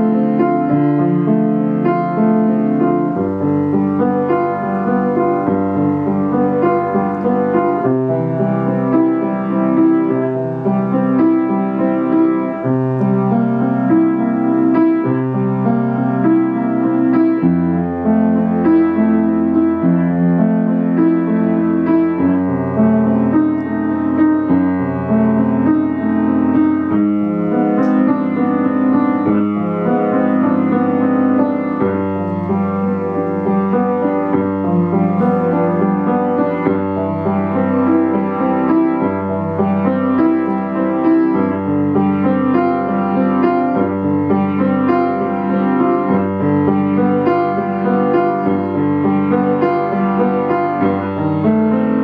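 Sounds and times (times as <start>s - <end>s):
solo classical piano: 0.0s - 52.0s.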